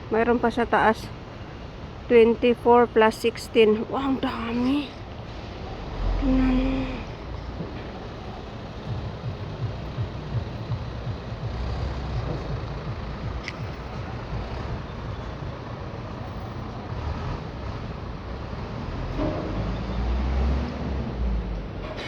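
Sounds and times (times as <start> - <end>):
rumble of passing traffic: 0.0 - 22.0.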